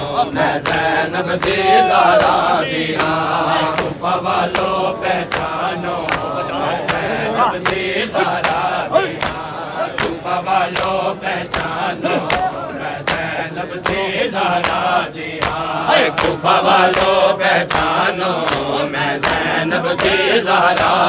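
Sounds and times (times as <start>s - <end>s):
crowd beating chests in unison: 0.0s - 21.0s
crowd chanting: 0.0s - 21.0s.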